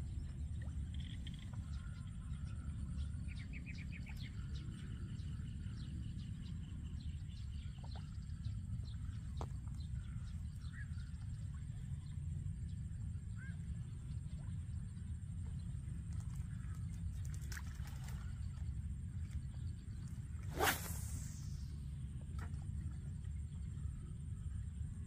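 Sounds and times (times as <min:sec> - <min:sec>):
faint bird chirps: 0:00.0 - 0:25.0.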